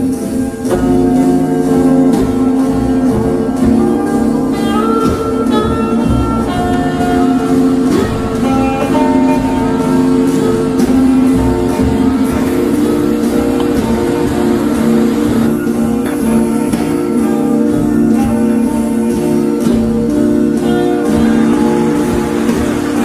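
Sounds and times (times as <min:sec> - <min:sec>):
guitar background music: 0:00.0 - 0:23.0.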